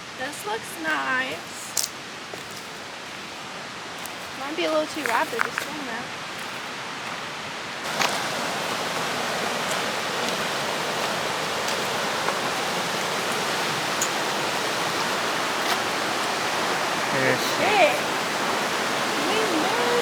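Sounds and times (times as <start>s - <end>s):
river rapids rushing: 0.0s - 20.0s.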